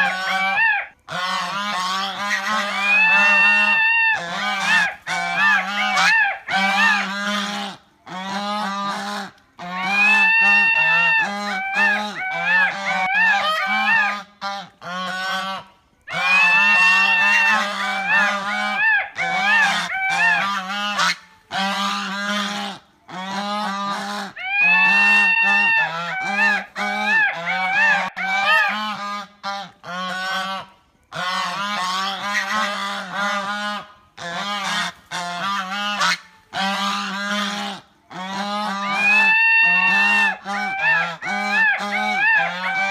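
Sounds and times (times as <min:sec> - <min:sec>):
goose honking: 0:00.0 - 0:42.9.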